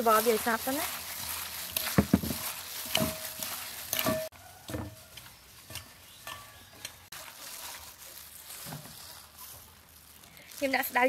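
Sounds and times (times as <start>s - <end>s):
wet salad being mixed: 0.0s - 11.0s.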